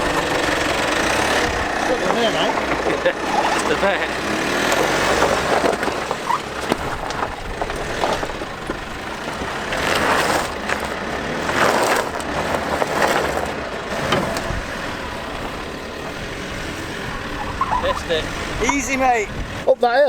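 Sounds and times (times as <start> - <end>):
knocks and rattles: 0.0 - 19.7
loud crunching bursts: 0.0 - 19.7
vehicle engine and tyre noise: 0.0 - 20.0.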